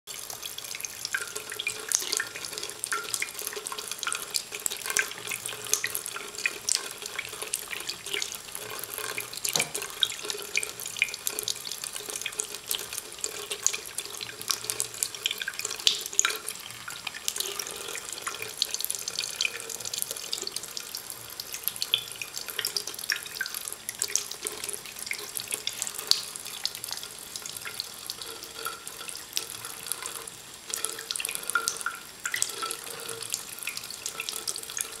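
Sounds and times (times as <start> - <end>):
tap water running into sink: 0.1 - 35.0.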